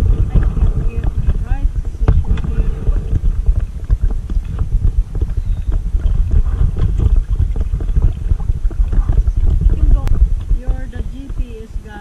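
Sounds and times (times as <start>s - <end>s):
paddle splashing in water: 0.0s - 11.7s
wind buffeting microphone: 0.0s - 12.0s.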